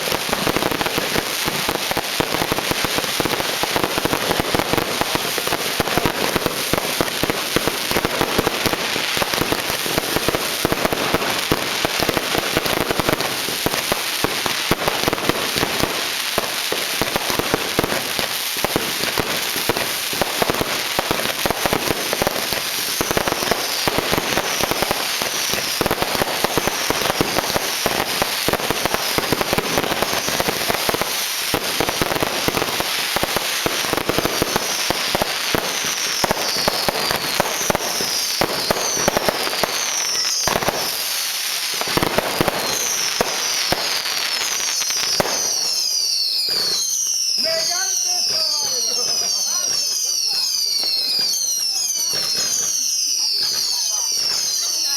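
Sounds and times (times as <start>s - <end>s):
fireworks and firecrackers cracking: 0.0s - 54.9s.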